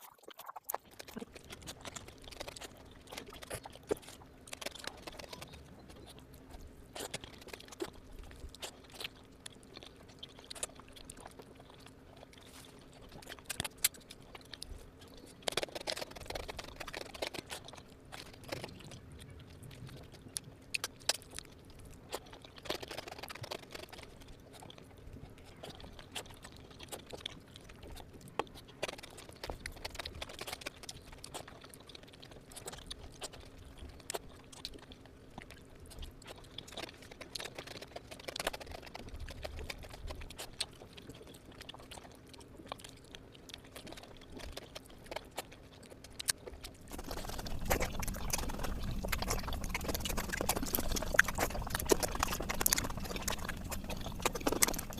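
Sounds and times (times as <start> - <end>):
faint steady hum: 0.0 - 54.9
person chewing food: 0.0 - 54.9.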